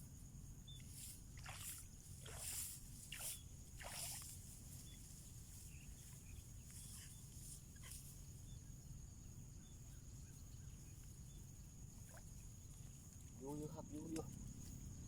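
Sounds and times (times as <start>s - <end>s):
high insect drone: 0.0s - 15.0s
faint bird chirps: 0.6s - 14.1s.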